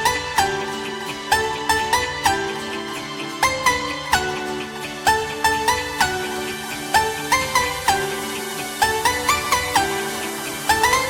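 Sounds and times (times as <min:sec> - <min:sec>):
background music melody: 0:00.0 - 0:11.0.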